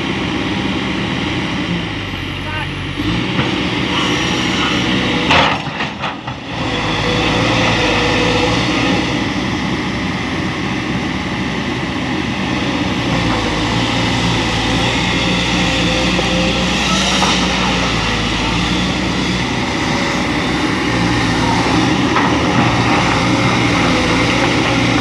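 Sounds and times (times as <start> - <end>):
diesel engine under load: 0.0 - 25.0.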